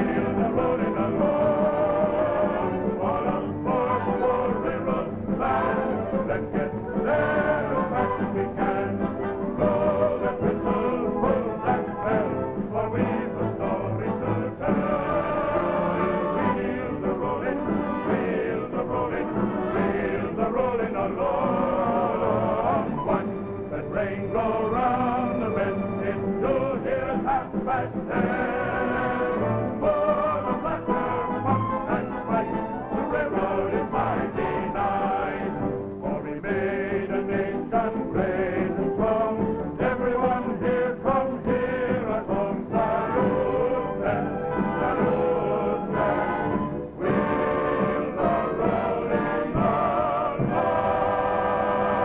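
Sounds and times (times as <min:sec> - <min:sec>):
choir singing: 0:00.0 - 0:52.0
orchestral music: 0:00.0 - 0:52.0.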